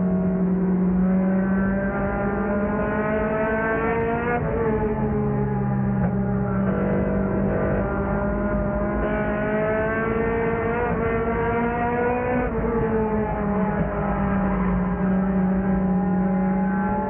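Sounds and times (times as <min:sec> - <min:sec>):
race car engine from inside: 0:00.0 - 0:17.0.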